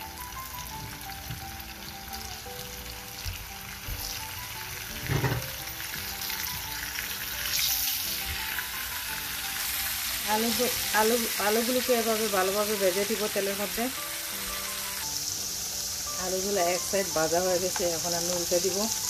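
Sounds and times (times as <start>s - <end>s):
potatoes sizzling in hot oil: 0.0s - 19.0s.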